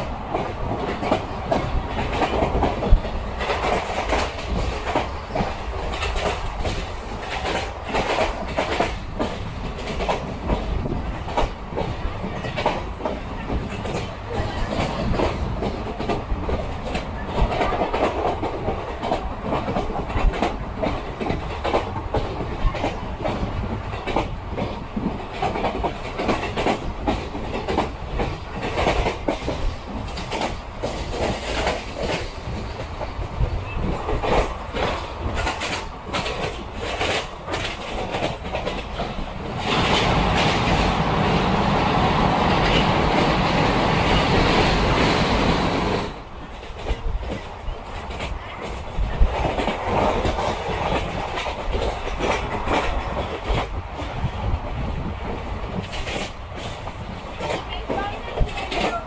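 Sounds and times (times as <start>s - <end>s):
wheels clattering on rails: 0.0s - 41.6s, 42.4s - 59.0s
train rumble: 0.0s - 59.0s.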